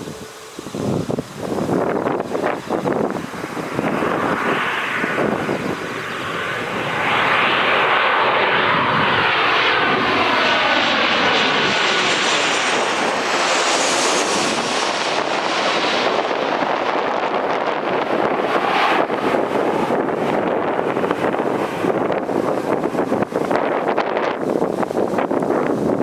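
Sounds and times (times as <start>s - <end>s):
high whine: 0.0s - 26.0s
jet engines passing: 0.0s - 26.0s.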